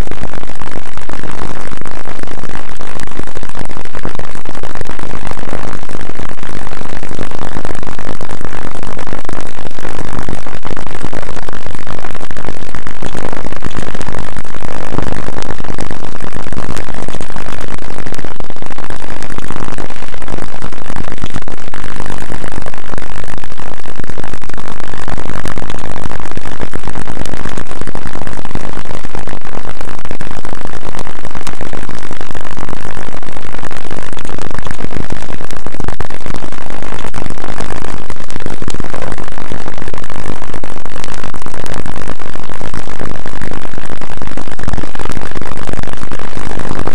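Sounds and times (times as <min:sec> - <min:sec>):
harsh distorted noise: 0:00.0 - 0:46.9.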